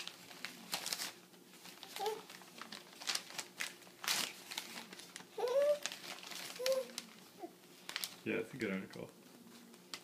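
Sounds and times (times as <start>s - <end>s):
newspaper rustling and crumpling: 0.0s - 10.0s.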